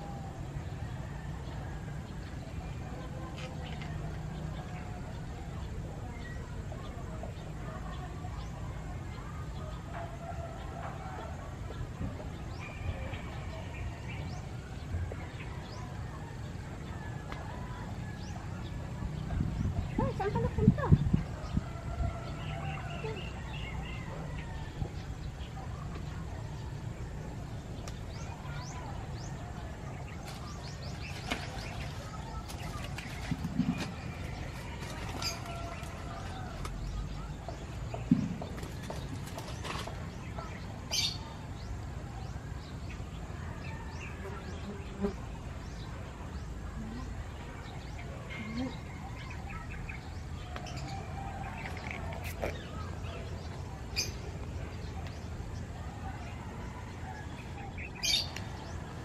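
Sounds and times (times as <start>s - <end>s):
low background noise: 0.0s - 59.0s
small birds chirping: 11.2s - 59.0s.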